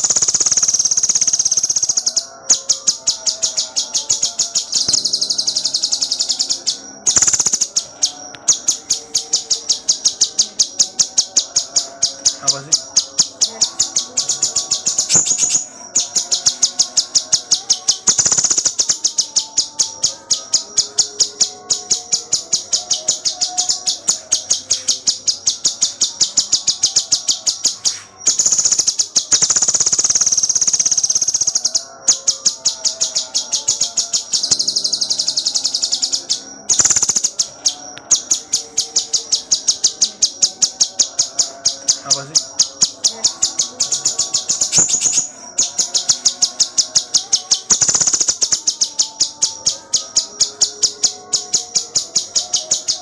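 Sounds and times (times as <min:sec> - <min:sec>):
bird singing rapid chattering notes: 0:00.0 - 0:53.0.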